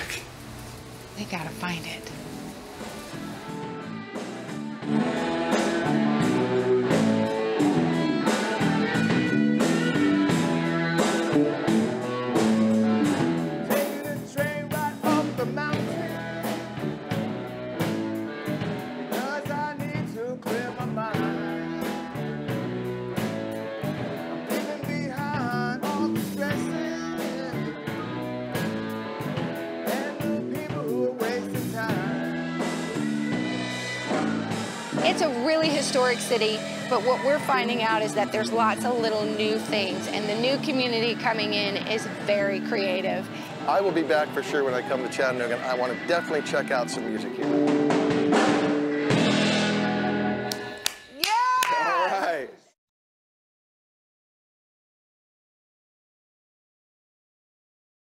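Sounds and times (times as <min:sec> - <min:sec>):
live blues-rock band playing: 0:01.4 - 0:50.8.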